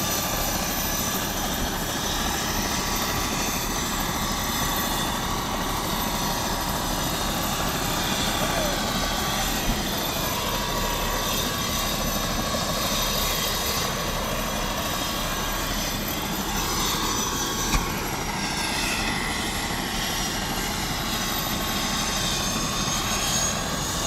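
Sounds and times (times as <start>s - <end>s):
helicopter engine and rotor running: 0.0s - 24.0s.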